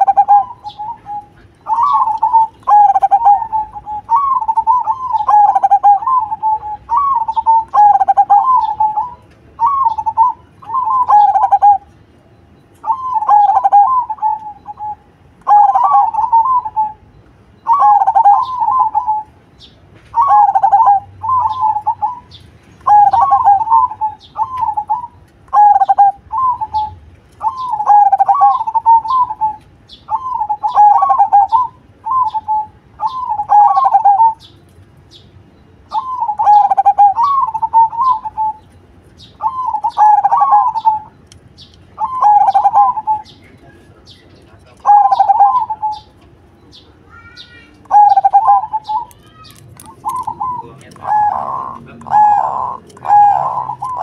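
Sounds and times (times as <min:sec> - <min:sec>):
dove cooing: 0:00.0 - 0:11.9, 0:12.8 - 0:34.5, 0:35.9 - 0:41.2, 0:41.9 - 0:54.0.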